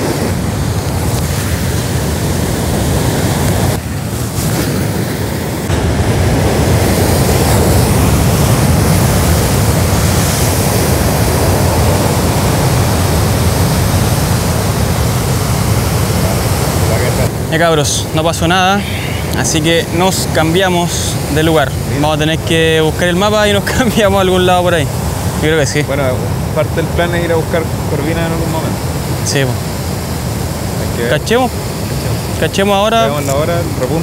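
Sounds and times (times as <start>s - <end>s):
ocean waves breaking over rocks: 0.0s - 34.0s.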